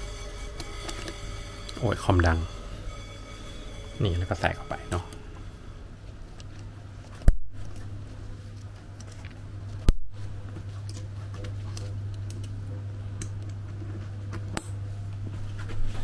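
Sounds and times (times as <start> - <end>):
computer hum: 0.0 - 15.3.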